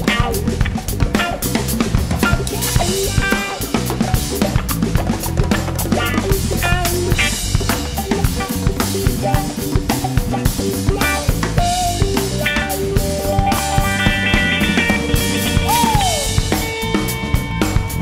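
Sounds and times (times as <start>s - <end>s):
drum kit beat: 0.0s - 18.0s
funk band playing: 0.0s - 18.0s.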